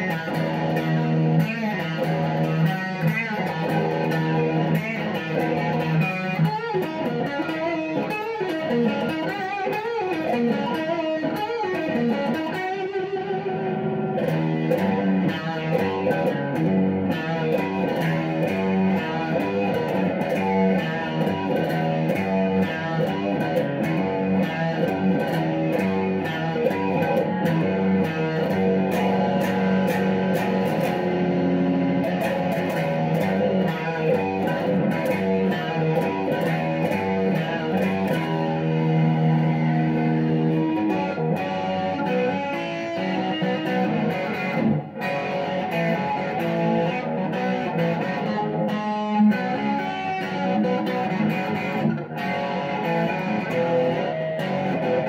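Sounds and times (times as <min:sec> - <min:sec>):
electric guitar playing rock riffs: 0:00.0 - 0:55.0.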